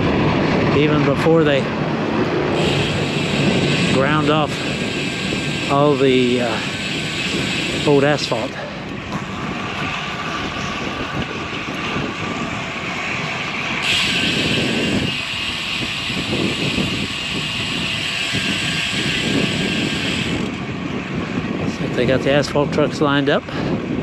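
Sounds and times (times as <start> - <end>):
road and tyre noise: 0.0 - 24.0
wind buffeting microphone: 0.0 - 24.0.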